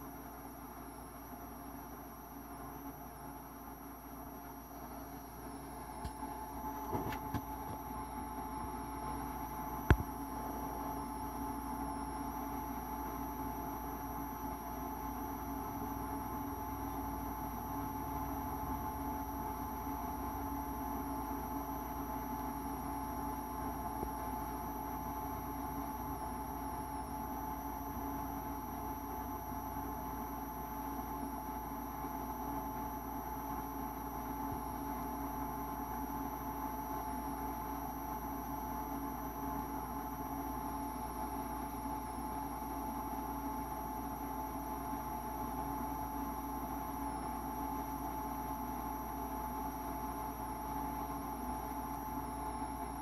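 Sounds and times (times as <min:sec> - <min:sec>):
electrical hum: 0:00.0 - 0:53.0
faint high whine: 0:00.0 - 0:53.0.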